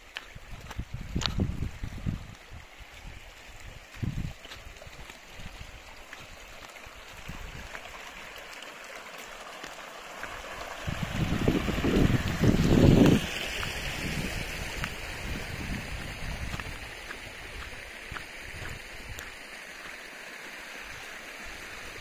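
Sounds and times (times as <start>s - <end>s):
stream trickling over stones: 0.0s - 22.0s.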